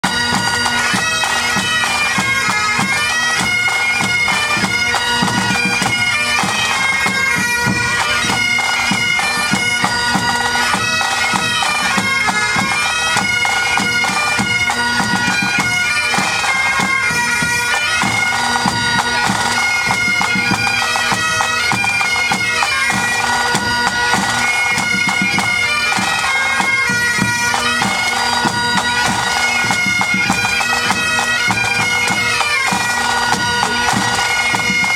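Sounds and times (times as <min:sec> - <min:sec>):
bagpipes playing tune: 0:00.0 - 0:34.9
drums beating: 0:00.0 - 0:34.9.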